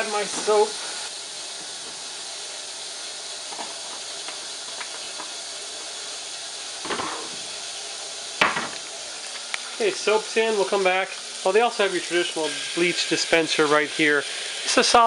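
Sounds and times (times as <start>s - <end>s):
water running into washing machine: 0.0s - 15.0s.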